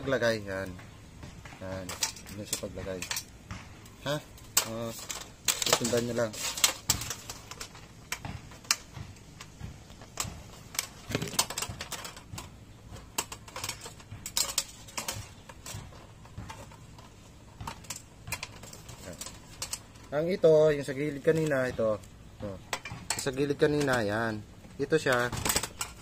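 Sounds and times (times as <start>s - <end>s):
plastic parts tapping on sheet metal: 0.0s - 26.0s.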